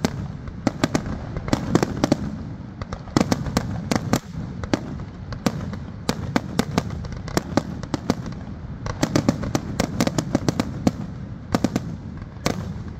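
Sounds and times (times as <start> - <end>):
fireworks bangs: 0.0 - 12.9.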